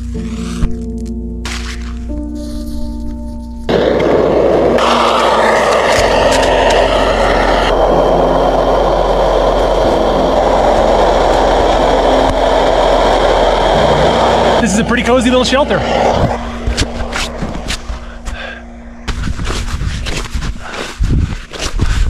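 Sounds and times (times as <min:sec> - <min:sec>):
strong wind on microphone: 0:03.7 - 0:22.0.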